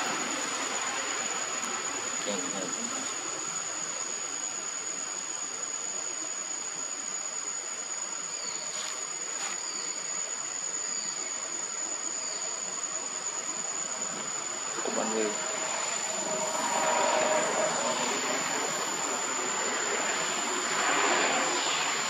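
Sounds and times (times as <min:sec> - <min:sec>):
even hiss: 0:00.0 - 0:22.0
insects buzzing: 0:00.0 - 0:22.0.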